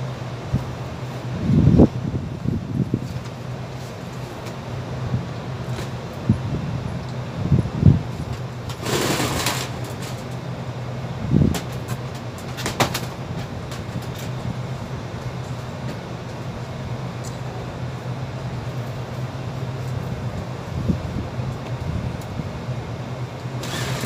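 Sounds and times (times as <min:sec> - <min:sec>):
low hum of hvac equipment: 0:00.0 - 0:24.0.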